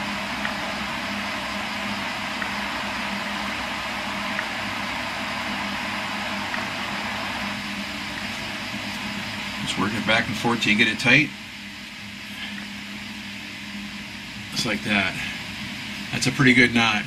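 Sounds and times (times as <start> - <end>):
machine hum with hiss: 0.0 - 17.0.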